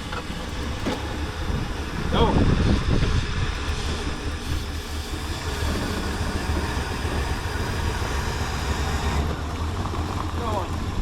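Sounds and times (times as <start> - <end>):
old car engine rumbling: 0.0 - 11.0.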